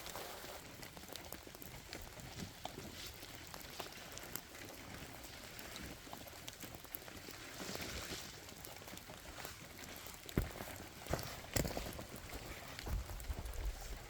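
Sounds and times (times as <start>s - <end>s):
rain dripping on leaves: 0.0s - 14.0s.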